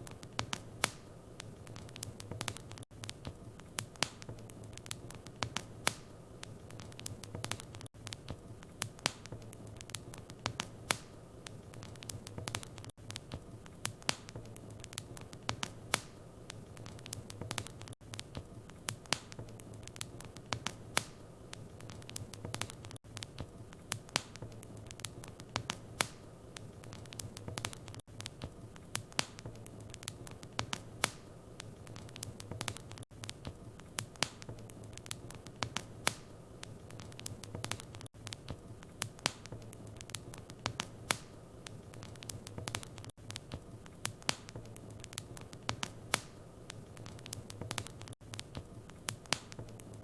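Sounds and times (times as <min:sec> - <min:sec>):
low rumble of flames: 0:00.0 - 0:50.0
wood fire crackling and popping: 0:00.0 - 0:50.0.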